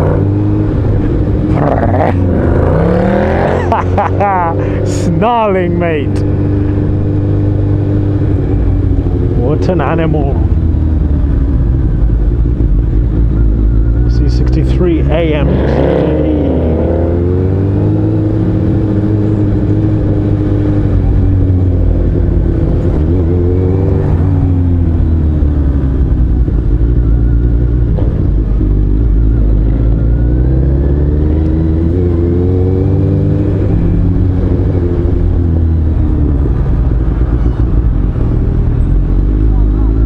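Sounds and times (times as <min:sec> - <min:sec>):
motorcycle engine droning: 0:00.0 - 0:40.0.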